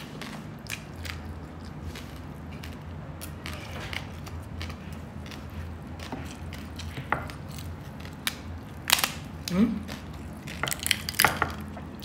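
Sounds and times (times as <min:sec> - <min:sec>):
steady low hum: 0:00.0 - 0:12.0
chewing with wet mouth clicks: 0:00.1 - 0:12.0.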